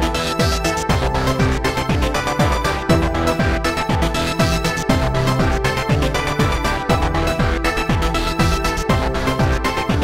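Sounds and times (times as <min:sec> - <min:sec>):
deep kick drum beat: 0:00.0 - 0:10.0.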